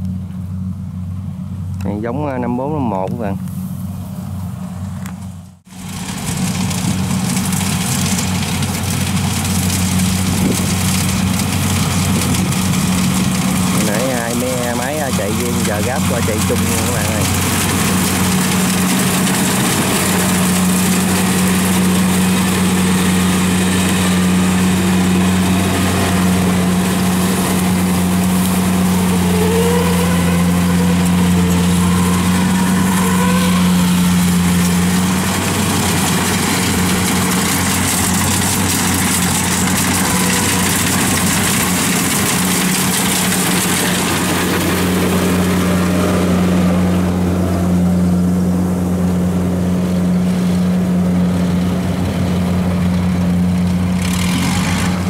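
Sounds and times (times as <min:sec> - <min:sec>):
combine harvester engine droning: 0:00.0 - 0:55.0
tracked carrier engine: 0:00.0 - 0:55.0.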